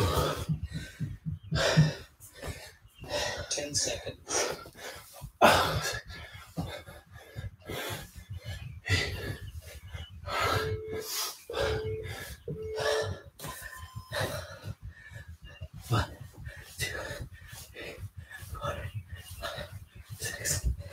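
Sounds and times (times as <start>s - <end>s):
man breathing hard: 0.0s - 3.6s, 4.3s - 20.9s.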